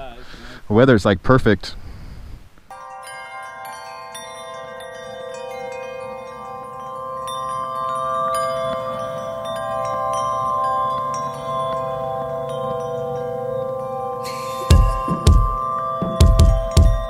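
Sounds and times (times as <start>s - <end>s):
bell-like chime notes: 2.7s - 17.0s
held chord: 2.7s - 17.0s.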